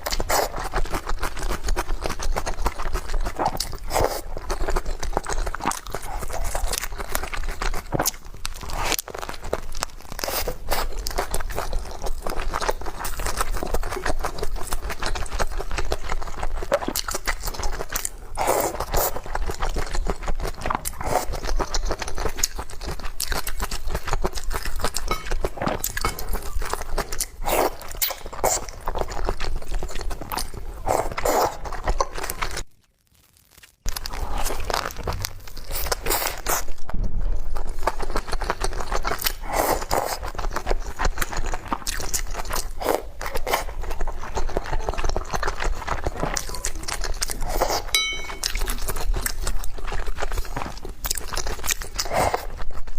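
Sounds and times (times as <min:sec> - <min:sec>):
chewing and crunching food: 0:00.0 - 0:52.9.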